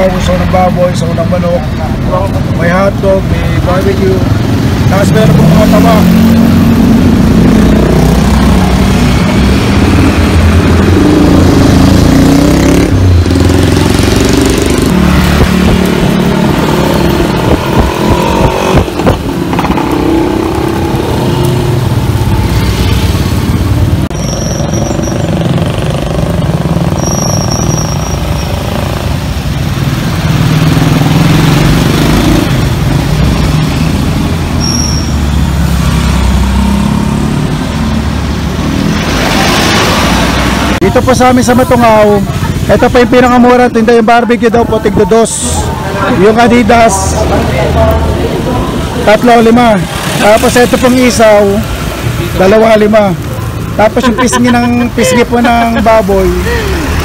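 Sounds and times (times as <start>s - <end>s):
motorcycle engines passing: 0.0s - 57.0s.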